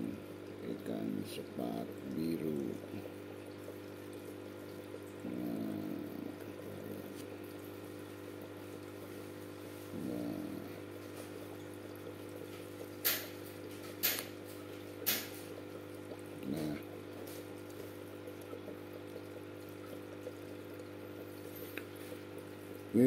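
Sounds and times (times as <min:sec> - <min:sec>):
aquarium pump humming: 0:00.0 - 0:23.0
water trickling: 0:00.0 - 0:23.0.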